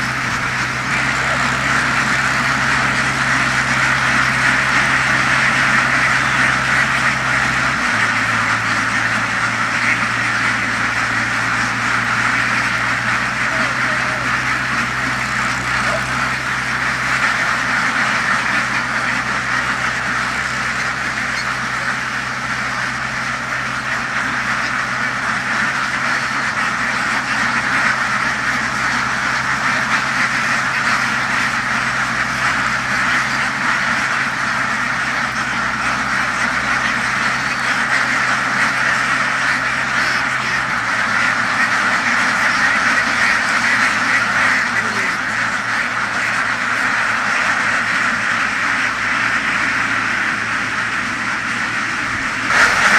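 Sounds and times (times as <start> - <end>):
flock of ducks quacking: 0.0 - 52.9
low engine hum: 0.0 - 52.9.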